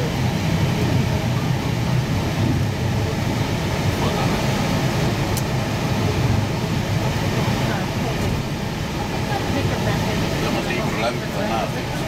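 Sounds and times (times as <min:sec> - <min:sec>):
cockpit engine hum and hiss: 0:00.0 - 0:12.0.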